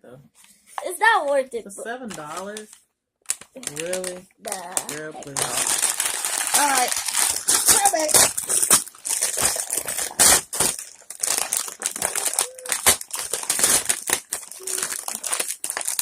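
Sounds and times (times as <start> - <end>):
packaging crinkling: 2.1 - 16.0.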